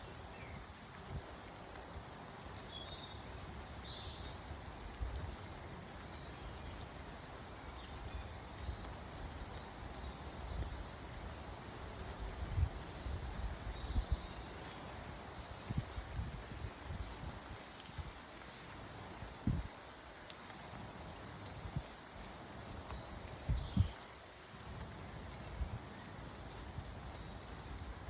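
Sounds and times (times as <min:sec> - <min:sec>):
small birds chirping: 0:00.0 - 0:16.3, 0:20.1 - 0:28.0
light rain falling: 0:00.0 - 0:28.0.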